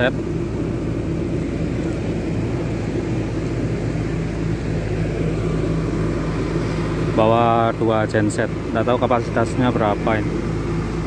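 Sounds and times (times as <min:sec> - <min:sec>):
diesel generator humming: 0:00.0 - 0:11.0.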